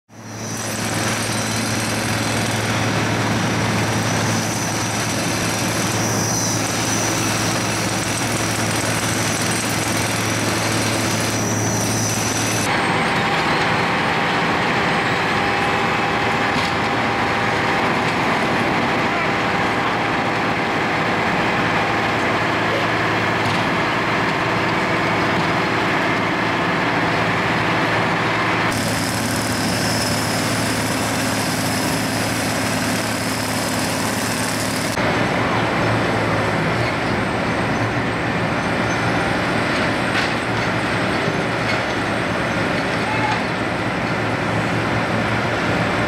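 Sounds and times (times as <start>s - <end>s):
diesel engine running: 0.1s - 46.0s.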